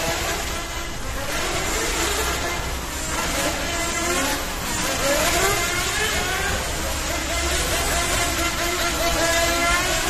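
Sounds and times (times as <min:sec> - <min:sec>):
rc car electric motors whining: 0:00.0 - 0:10.0.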